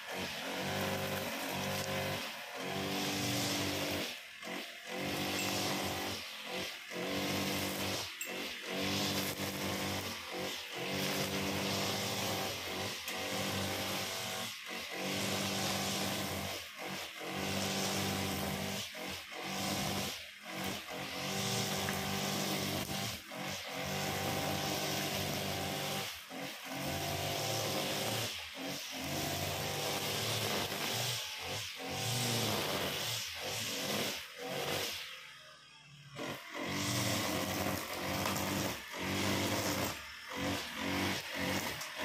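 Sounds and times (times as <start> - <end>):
brush cutter cutting grass: 0.0 - 35.2, 36.2 - 42.0.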